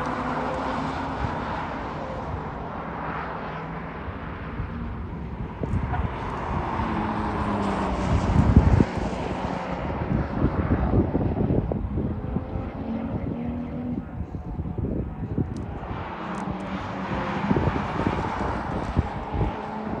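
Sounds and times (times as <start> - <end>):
race car engines droning: 0.0 - 20.0
wind buffeting microphone: 4.0 - 20.0.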